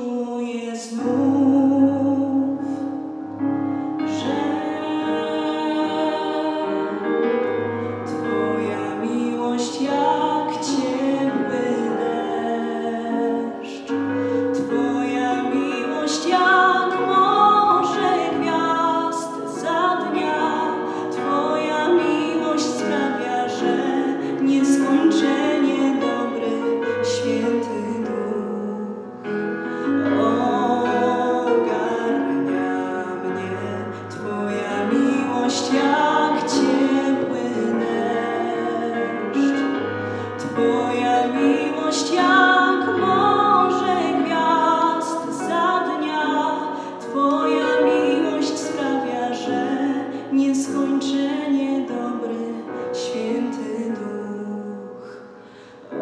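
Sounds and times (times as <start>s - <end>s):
woman singing into microphone: 3.9s - 29.1s, 29.9s - 55.2s.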